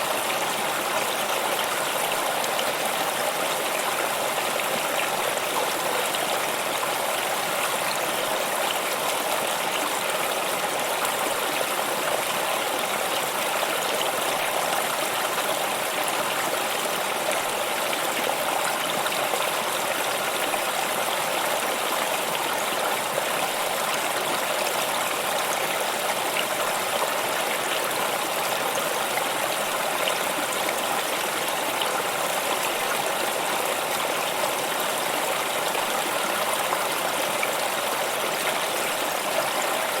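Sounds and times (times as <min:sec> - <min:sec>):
stream flowing over stones: 0:00.0 - 0:40.0.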